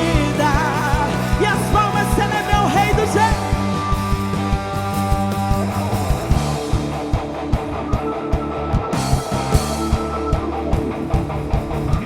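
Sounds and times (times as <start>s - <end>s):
gospel band playing: 0.0s - 12.0s
steady drum beat: 0.0s - 12.0s.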